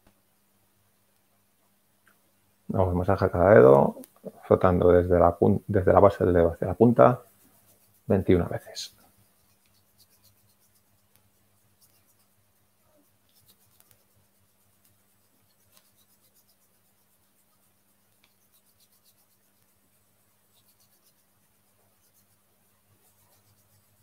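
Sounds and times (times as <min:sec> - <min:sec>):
hands rubbing fingers: 0:02.8 - 0:24.0.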